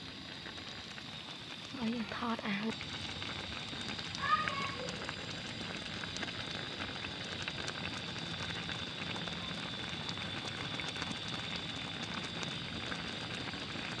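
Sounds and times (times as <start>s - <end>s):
soup boiling in metal pot: 0.0s - 14.0s.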